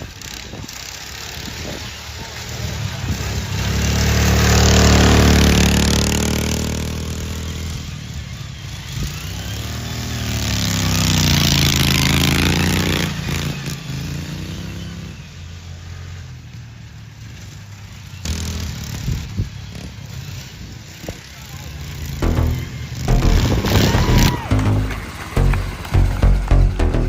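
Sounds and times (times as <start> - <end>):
racing lawnmower engines passing: 0.0 - 27.0.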